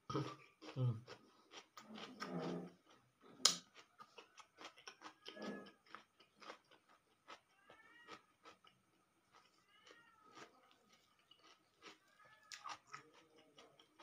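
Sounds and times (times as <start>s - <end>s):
close-up chewing and smacking: 0.1s - 14.0s.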